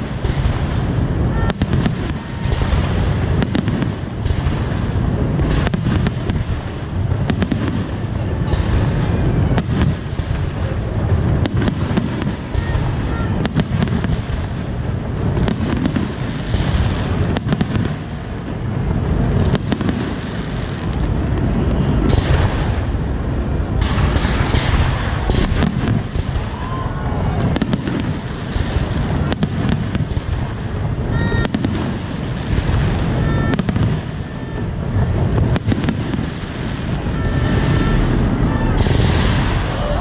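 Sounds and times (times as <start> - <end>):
fireworks bangs and crackles: 0.0 - 40.0
low rumble of bursts: 0.0 - 40.0.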